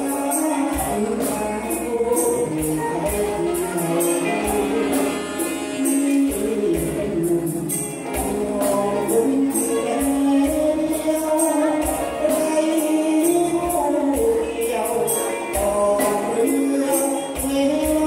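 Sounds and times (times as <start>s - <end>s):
drum kit: 0.0s - 18.0s
keyboard: 0.0s - 18.0s
man singing: 0.0s - 18.0s.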